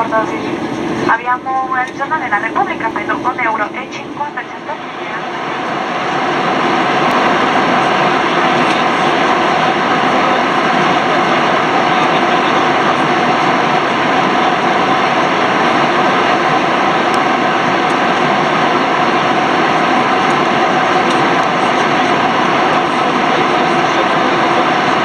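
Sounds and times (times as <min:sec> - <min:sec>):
airflow rushing in cabin: 0:00.0 - 0:25.0
faint steady whine: 0:00.0 - 0:25.0
jet engines droning: 0:00.0 - 0:25.0.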